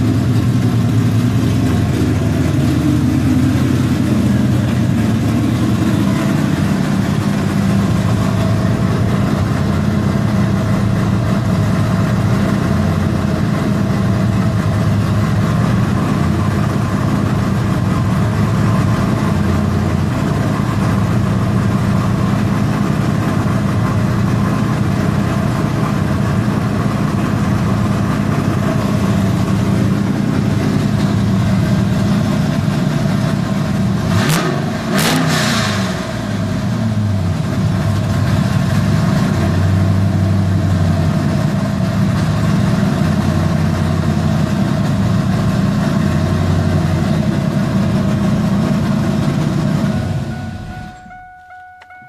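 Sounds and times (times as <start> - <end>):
engine idling: 0.0 - 52.0.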